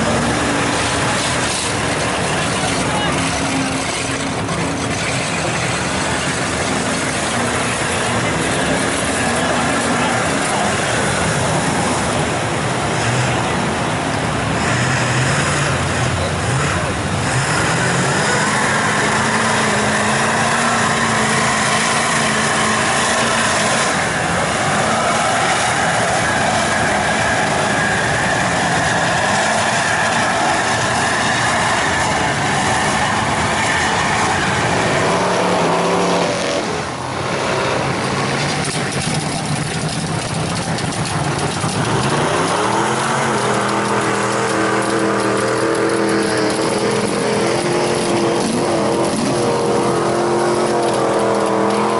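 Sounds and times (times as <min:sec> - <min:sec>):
truck engine revving: 0:00.0 - 0:51.9.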